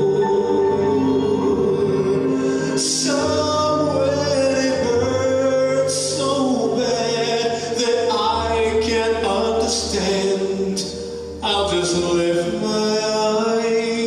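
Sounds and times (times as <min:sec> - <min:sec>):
instrumental backing with bass: 0:00.0 - 0:14.0.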